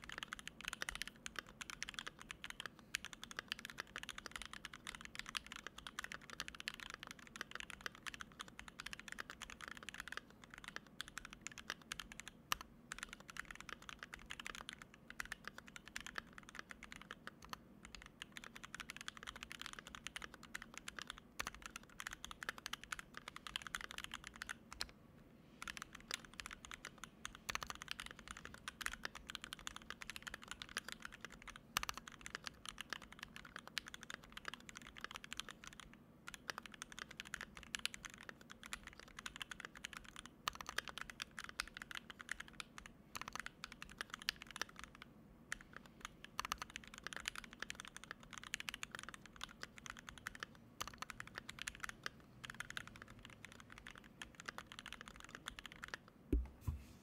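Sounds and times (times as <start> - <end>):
typing on mechanical keyboard: 0.0 - 24.9, 25.6 - 56.1.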